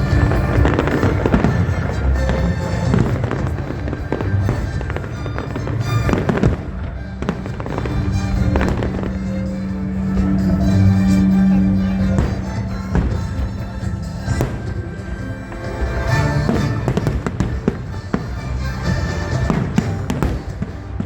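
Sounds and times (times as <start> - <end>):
fireworks bangs: 0.0 - 21.0
music playing: 0.0 - 21.0.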